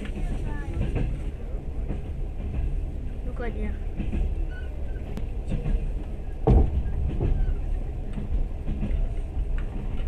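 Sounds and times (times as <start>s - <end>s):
wheels rumbling on track: 0.0s - 10.0s.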